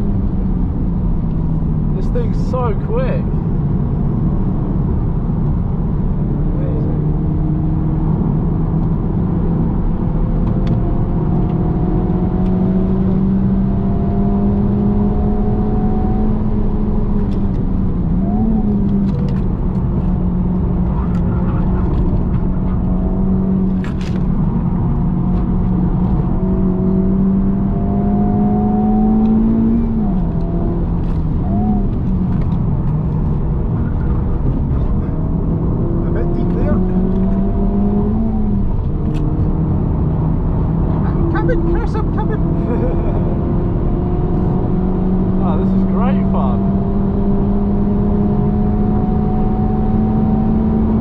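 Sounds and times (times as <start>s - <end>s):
car engine pulling hard: 0.0s - 51.0s
tyre and road noise: 0.0s - 51.0s.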